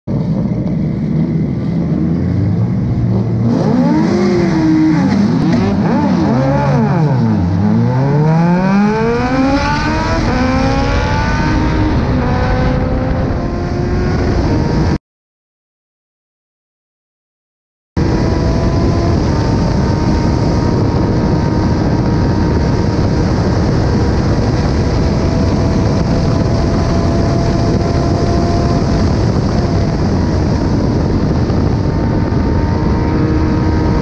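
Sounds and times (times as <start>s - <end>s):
motorcycle engine revving: 0.1s - 15.0s, 18.0s - 34.0s.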